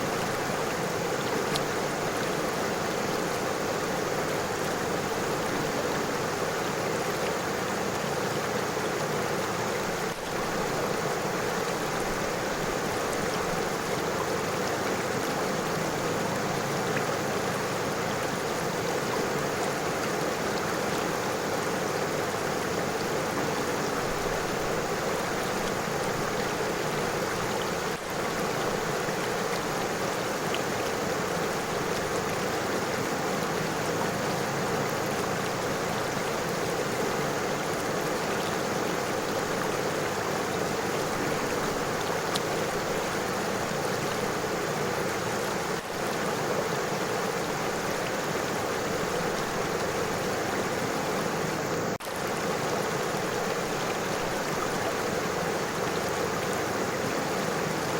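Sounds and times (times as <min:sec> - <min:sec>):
river water splashing over stones: 0:00.0 - 0:57.9.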